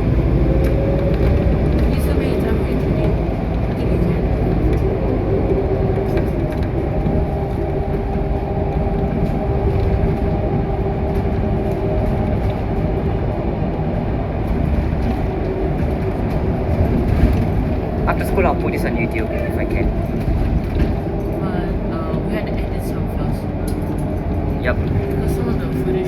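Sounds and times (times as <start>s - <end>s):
bus engine droning with whine: 0.0s - 26.0s.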